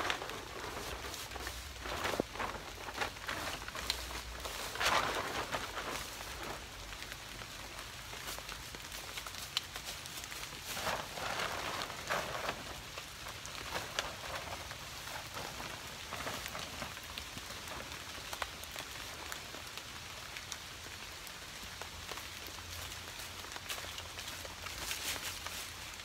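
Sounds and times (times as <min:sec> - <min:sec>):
plastic tarp crinkling: 0:00.0 - 0:26.0.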